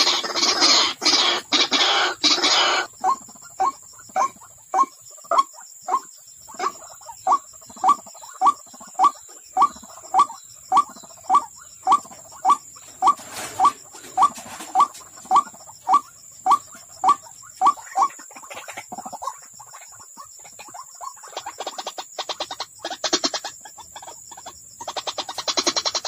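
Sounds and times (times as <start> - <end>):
waterhen call: 0.0 - 26.0.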